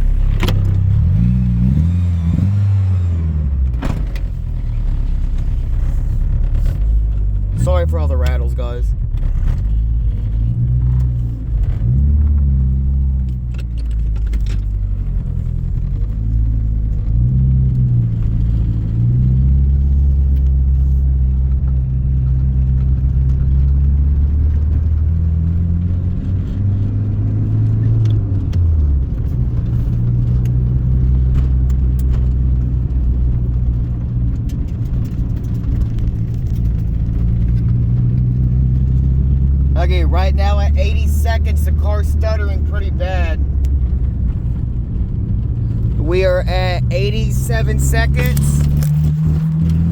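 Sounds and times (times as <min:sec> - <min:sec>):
car engine revving in cabin: 0:00.0 - 0:49.9.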